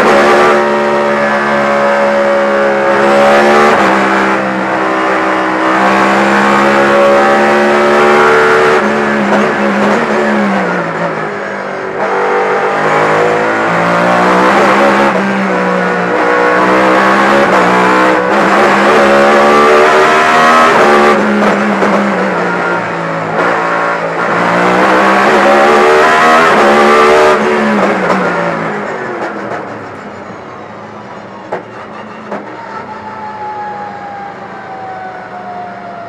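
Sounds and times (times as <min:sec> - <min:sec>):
race car engine revving through gears: 0:00.0 - 0:29.9.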